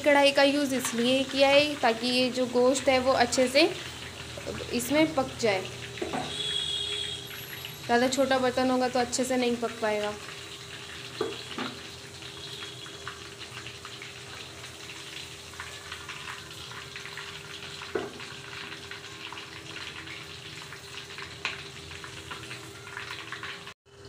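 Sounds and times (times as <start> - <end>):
chicken deep-frying in oil: 0.0 - 24.0.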